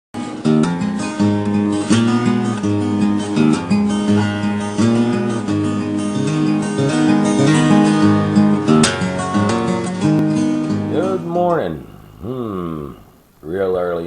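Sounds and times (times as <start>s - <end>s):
acoustic guitar strumming chords: 0.2s - 14.0s.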